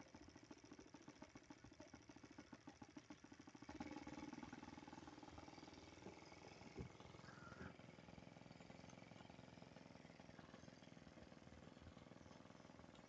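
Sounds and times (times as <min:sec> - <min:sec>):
distant model airplane engine: 0:00.0 - 0:13.0.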